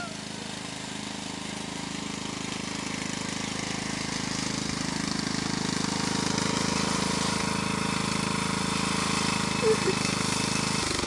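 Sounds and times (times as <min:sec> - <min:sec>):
riding lawn mower engine: 0:00.0 - 0:11.0.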